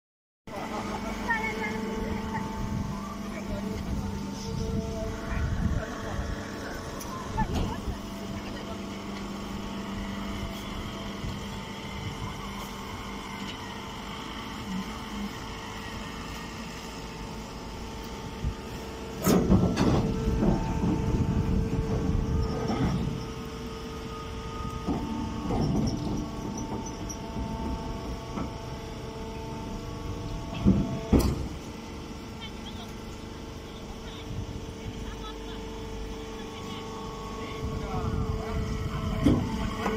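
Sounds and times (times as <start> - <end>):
baler press humming: 0.5 - 39.9.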